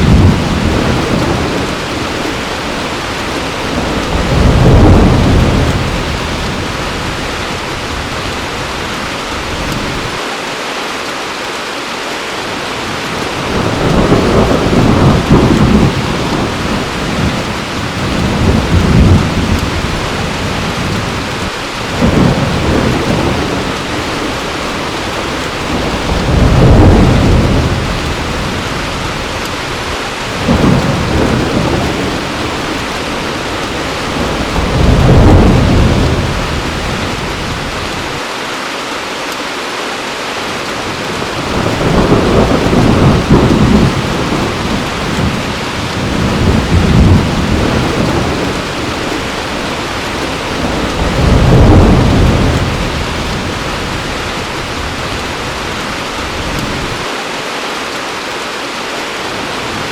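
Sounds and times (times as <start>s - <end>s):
thunder rumbling: 0.0s - 10.2s, 12.8s - 38.2s, 40.8s - 57.1s
heavy rain: 0.0s - 59.9s.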